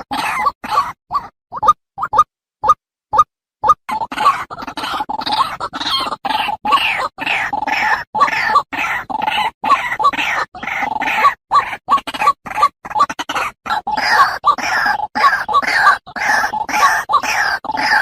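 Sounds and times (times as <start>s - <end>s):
bird harsh squawks: 0.0s - 2.2s, 3.9s - 18.0s.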